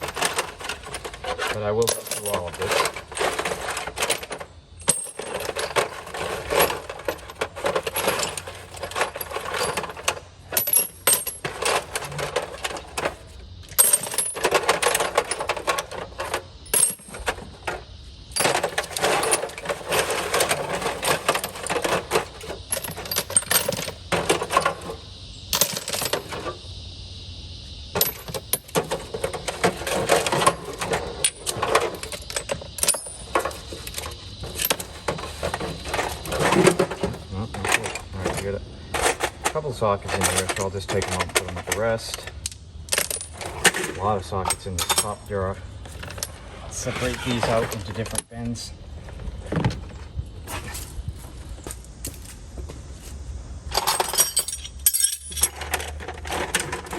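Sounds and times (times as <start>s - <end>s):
steel tools clinking: 0.0s - 26.6s, 27.9s - 48.3s, 53.7s - 56.9s.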